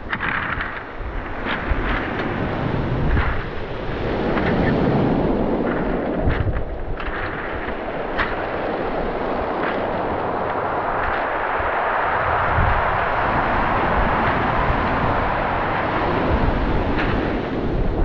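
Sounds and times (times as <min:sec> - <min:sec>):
waves washing over pebble beach: 0:00.0 - 0:18.0
wind buffeting microphone: 0:00.0 - 0:18.0.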